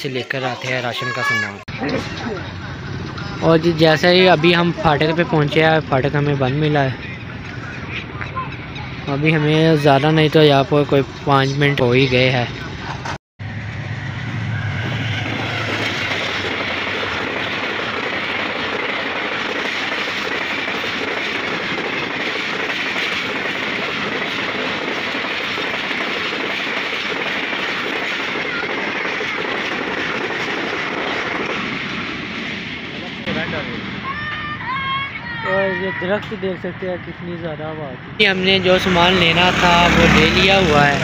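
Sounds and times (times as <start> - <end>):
train wheels on rails: 0.1 - 35.0, 38.2 - 41.0
deep train rumble: 1.0 - 41.0.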